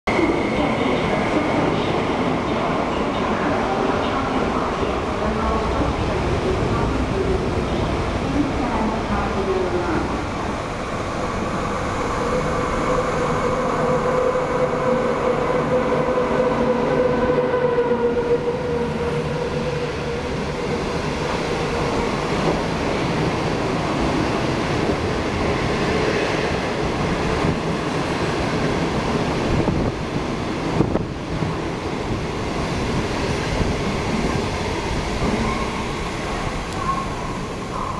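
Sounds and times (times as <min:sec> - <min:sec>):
electric locomotive hum: 0:00.1 - 0:37.9.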